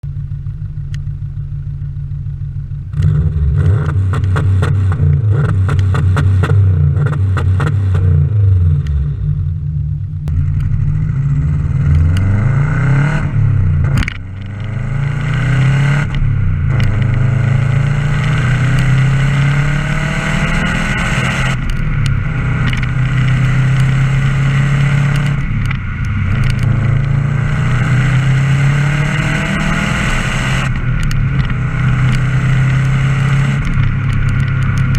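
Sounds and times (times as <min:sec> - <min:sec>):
car engine revving: 0:00.3 - 0:34.9.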